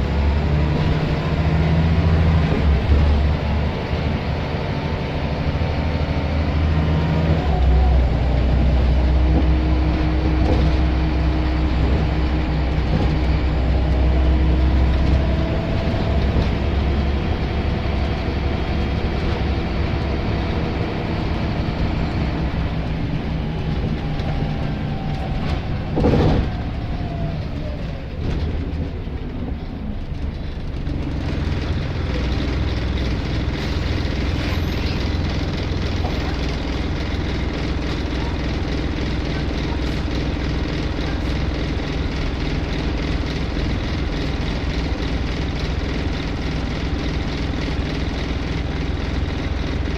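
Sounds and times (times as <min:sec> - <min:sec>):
bus engine droning: 0:00.0 - 0:49.9.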